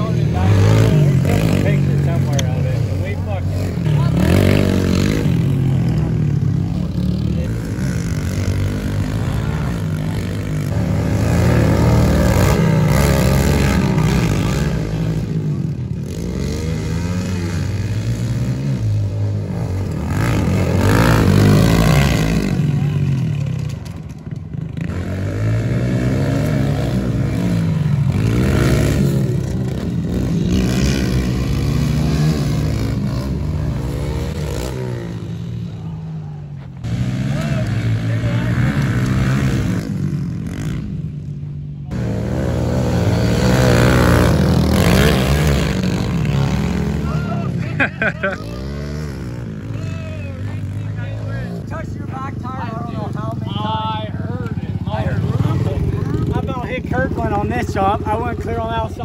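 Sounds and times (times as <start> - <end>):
pit bike engines revving: 0.0 - 59.0.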